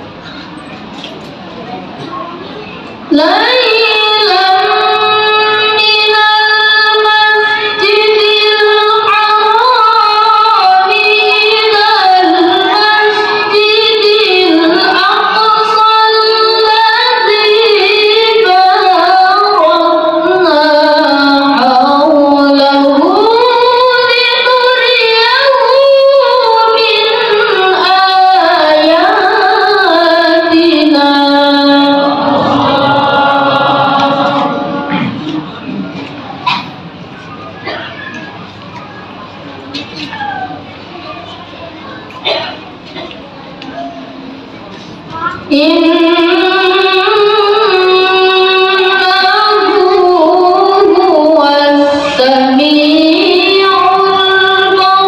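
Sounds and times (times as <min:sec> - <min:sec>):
boy chanting melodically: 0:02.0 - 0:36.7, 0:45.0 - 0:55.0.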